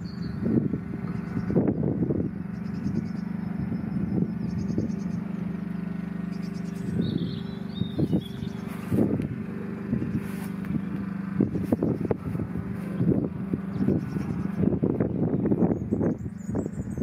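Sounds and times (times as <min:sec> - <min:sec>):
bird chirping: 0:00.0 - 0:17.0
engine idling: 0:00.0 - 0:17.0.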